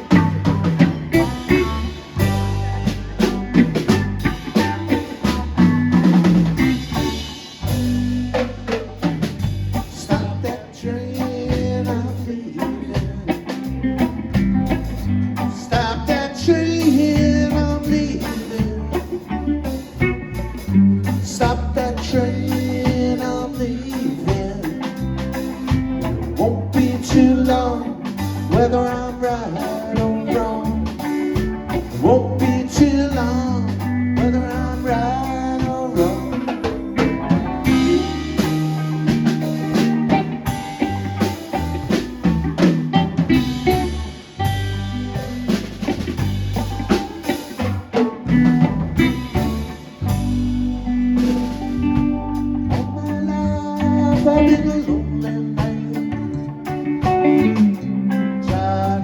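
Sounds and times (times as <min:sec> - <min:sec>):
bass guitar: 0:00.0 - 0:59.0
drum kit beat: 0:00.0 - 0:59.0
electric guitars: 0:00.0 - 0:59.0.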